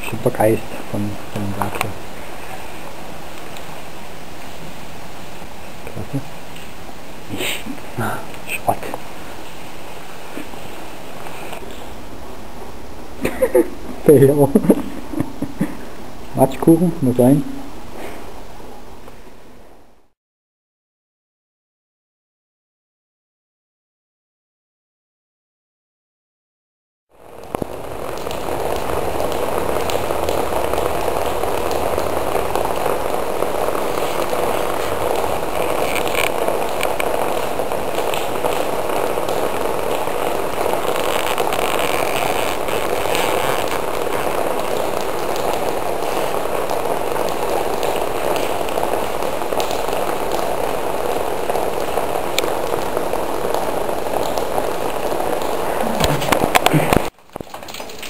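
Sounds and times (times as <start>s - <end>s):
steady rain: 0.0s - 20.2s, 27.1s - 58.0s.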